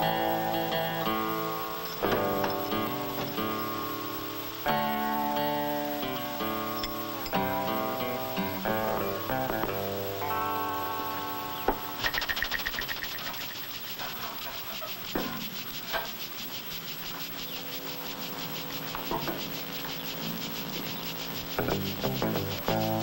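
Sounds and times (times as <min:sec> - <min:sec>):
held low notes: 0:00.0 - 0:13.7, 0:17.6 - 0:23.0
fast scraping rhythm: 0:00.0 - 0:23.0.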